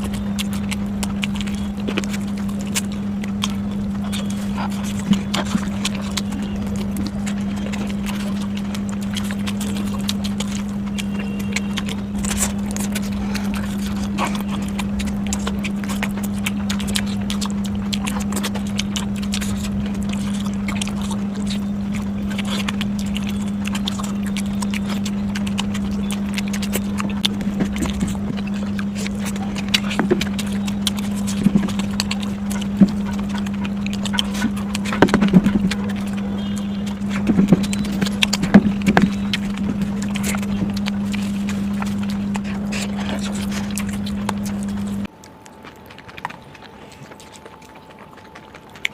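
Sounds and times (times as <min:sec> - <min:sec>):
chewing clicks and smacks: 0:00.0 - 0:48.9
low hum: 0:00.0 - 0:48.9.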